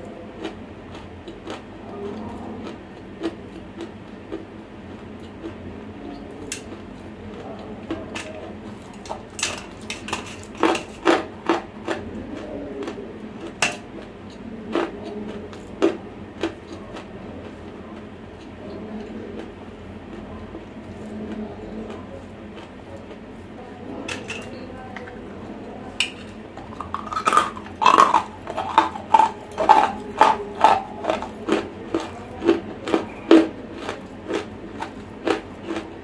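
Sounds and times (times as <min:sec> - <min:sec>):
crunching clay being chewed: 0:00.3 - 0:23.6, 0:24.5 - 0:36.0.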